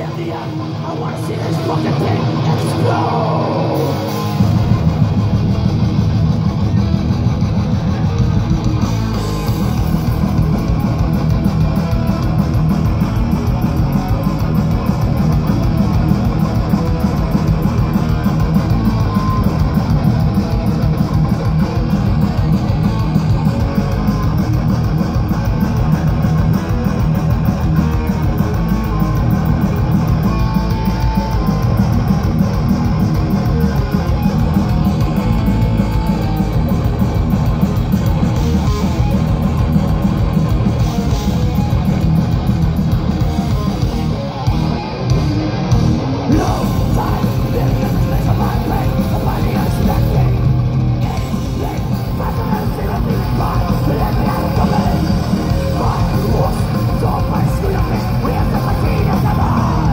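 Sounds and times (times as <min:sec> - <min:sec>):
distorted electric guitars: 0:00.0 - 0:59.9
fast drumming: 0:00.0 - 0:59.9
metal band playing live: 0:00.0 - 0:59.9.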